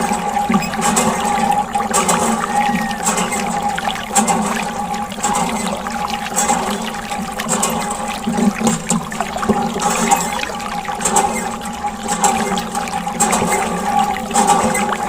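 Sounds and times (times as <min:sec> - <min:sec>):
tap water splashing on plastic: 0:00.0 - 0:15.0.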